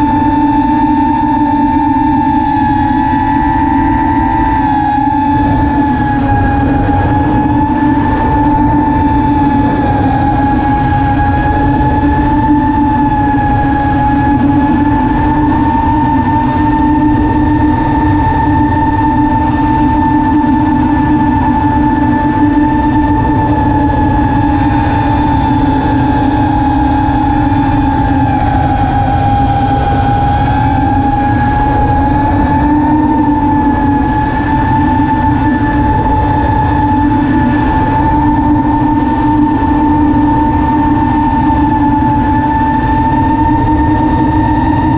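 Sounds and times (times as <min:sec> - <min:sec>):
drone motors humming: 0:00.0 - 0:44.9
wind rumble on microphone: 0:00.0 - 0:44.9.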